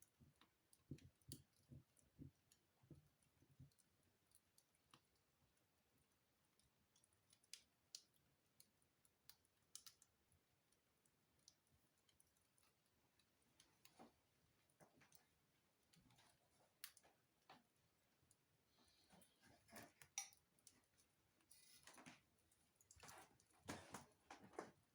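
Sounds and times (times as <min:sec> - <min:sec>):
fire pops and ticks: 0:00.0 - 0:05.6, 0:06.5 - 0:18.4, 0:21.8 - 0:24.9
wood fire crackling: 0:00.0 - 0:24.9.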